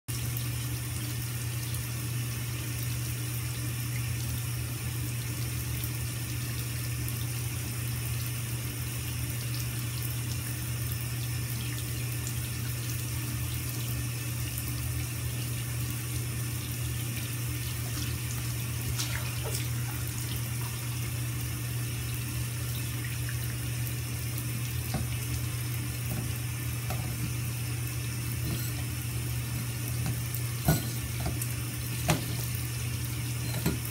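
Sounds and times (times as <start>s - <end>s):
water running into bathtub: 0.1s - 33.9s.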